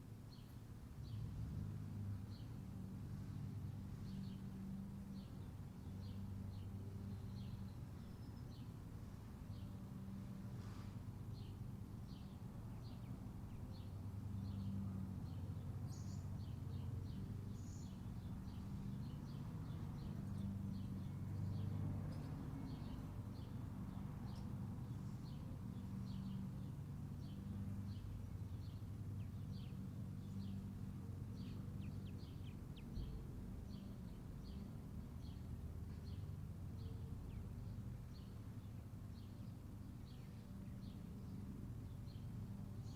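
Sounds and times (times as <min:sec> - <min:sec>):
bird chirping: 0:02.3 - 0:42.9.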